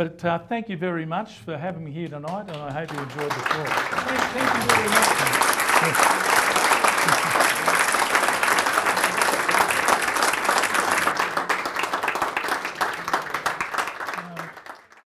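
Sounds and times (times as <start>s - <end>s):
audience applauding: 2.3s - 15.0s.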